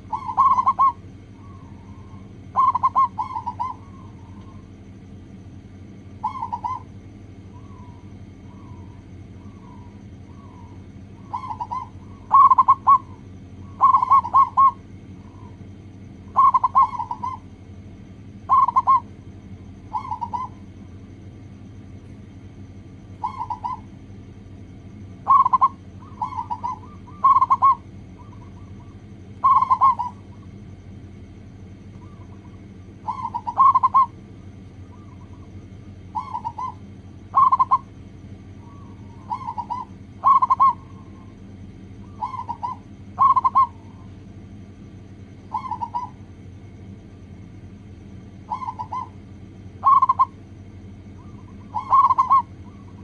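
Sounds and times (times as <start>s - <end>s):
dove cooing: 0.0s - 5.0s, 5.8s - 21.3s, 22.4s - 44.3s, 45.2s - 46.5s, 48.3s - 53.0s
faint steady hum: 0.0s - 53.0s.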